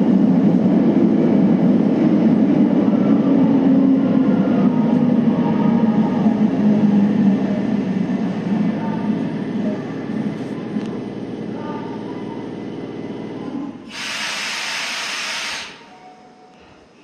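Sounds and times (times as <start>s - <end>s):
subway train wheels rumbling on rail: 0.0s - 17.0s.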